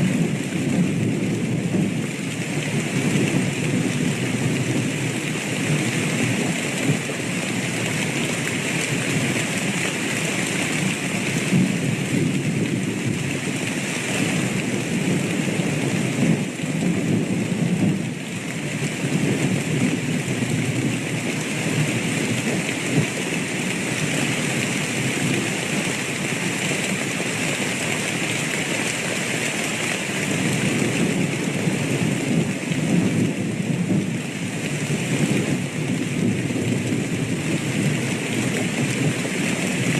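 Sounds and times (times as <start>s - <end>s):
thunder rumbling: 0.0s - 10.0s, 10.7s - 28.2s, 30.0s - 39.9s
heavy rain: 0.0s - 39.9s.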